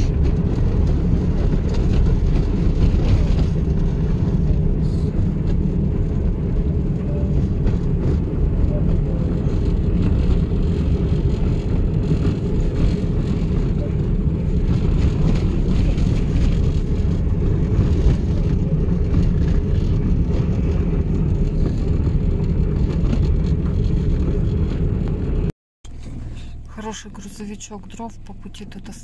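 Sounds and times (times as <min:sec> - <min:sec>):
car engine: 0:00.0 - 0:29.0
road noise: 0:00.0 - 0:29.0.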